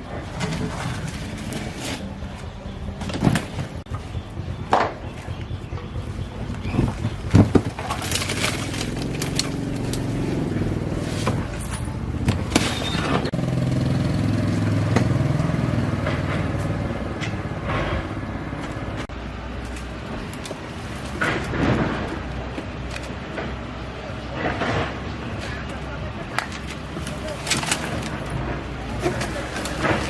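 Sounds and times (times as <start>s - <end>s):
sharp knocks and metallic clatter: 0.0s - 30.0s
vehicle engine running: 0.0s - 30.0s.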